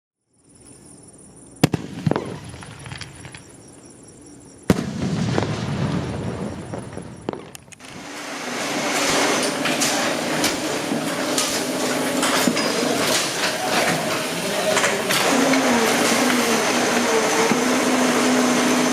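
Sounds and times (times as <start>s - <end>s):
firework bangs: 1.6s - 3.6s, 4.7s - 18.9s
fireworks crackling: 1.6s - 3.7s, 4.7s - 18.9s.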